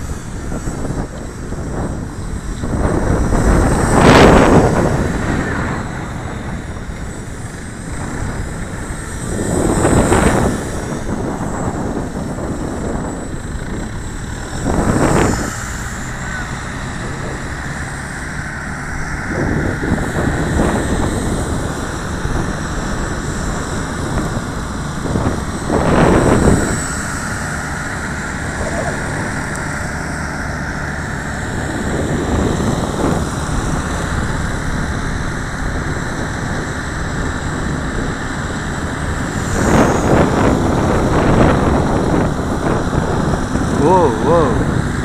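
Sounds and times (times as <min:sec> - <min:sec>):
rc helicopter high whine: 0:00.0 - 0:45.0
wind buffeting microphone: 0:00.0 - 0:45.0.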